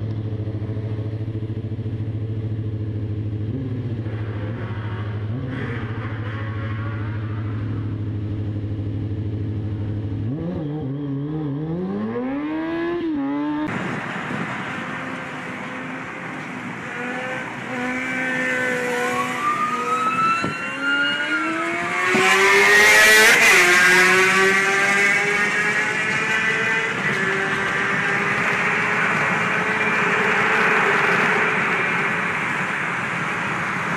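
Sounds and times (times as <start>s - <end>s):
motorcycle engine revving: 0.0s - 13.7s, 16.8s - 32.7s
car engine speeding up: 0.0s - 33.9s.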